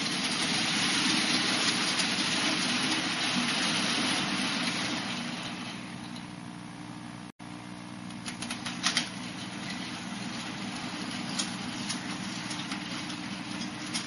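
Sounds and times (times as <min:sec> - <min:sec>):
wheels ticking over rail joints: 0:00.0 - 0:06.3, 0:08.3 - 0:14.0.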